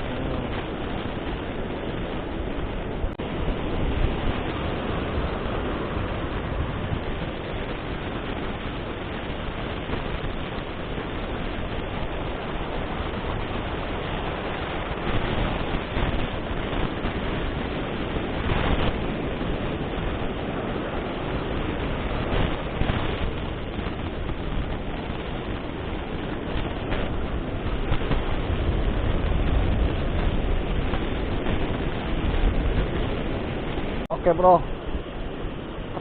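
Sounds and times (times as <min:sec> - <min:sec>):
ocean surf on beach: 0:00.0 - 0:36.0
wind on microphone: 0:00.0 - 0:36.0.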